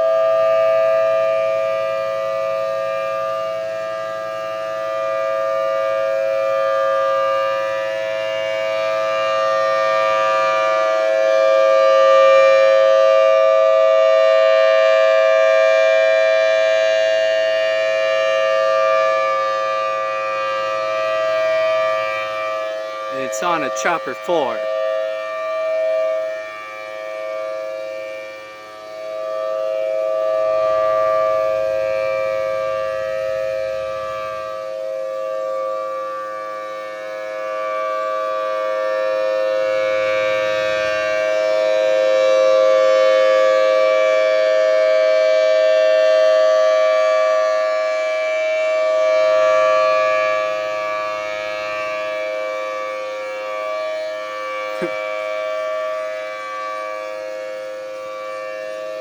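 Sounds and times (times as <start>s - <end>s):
outdoor warning siren: 0.0s - 59.0s.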